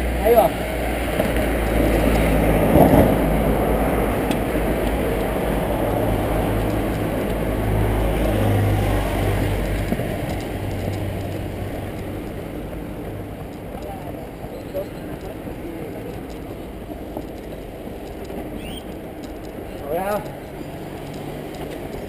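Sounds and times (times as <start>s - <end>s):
wind rumbling over microphone: 0.0s - 22.0s.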